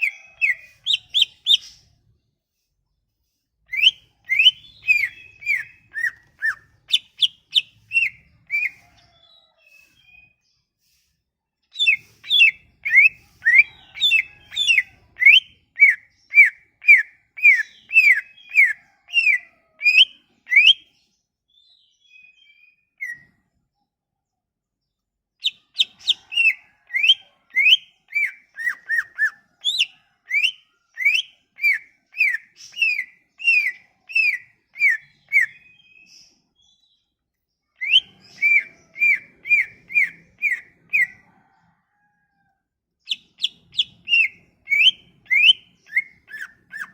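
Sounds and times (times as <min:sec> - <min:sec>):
songbird whistling: 0:00.0 - 0:01.9, 0:03.7 - 0:10.4, 0:11.7 - 0:20.9, 0:21.6 - 0:23.3, 0:25.4 - 0:36.9, 0:37.8 - 0:41.5, 0:43.1 - 0:46.9.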